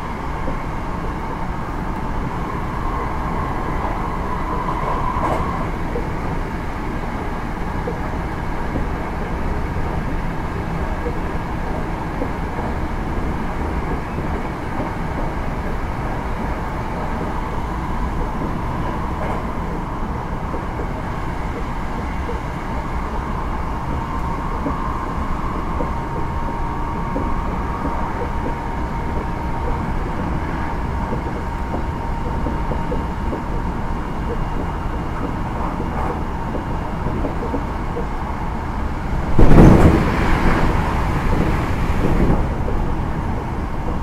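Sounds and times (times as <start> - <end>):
electric train running: 0.0 - 44.0.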